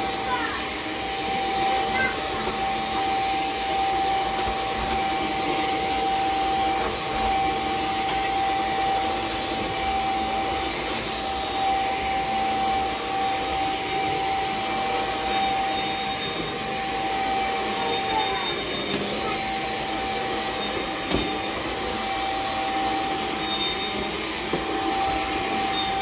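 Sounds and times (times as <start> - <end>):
stick vacuum running over carpet: 0.0 - 26.0.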